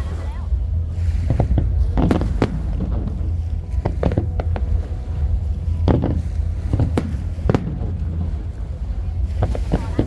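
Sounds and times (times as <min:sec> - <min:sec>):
low rumble: 0:00.0 - 0:10.0
fireworks bursting: 0:00.9 - 0:10.0.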